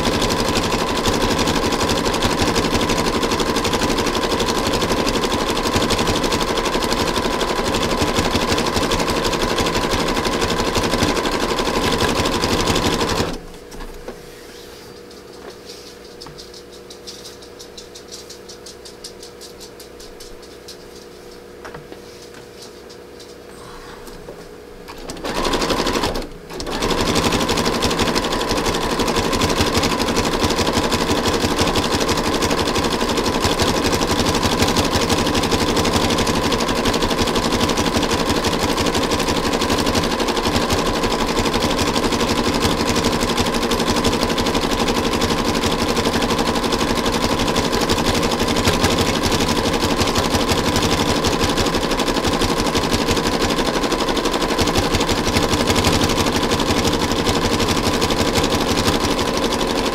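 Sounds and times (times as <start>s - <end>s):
sewing machine stitching: 0.0s - 13.4s, 24.9s - 59.9s.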